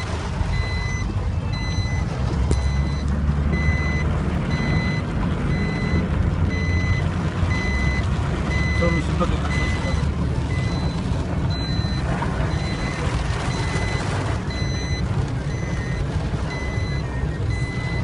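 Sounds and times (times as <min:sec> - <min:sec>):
engine rumbling: 0:00.0 - 0:18.0
vehicle reversing alarm beeping: 0:00.4 - 0:18.0.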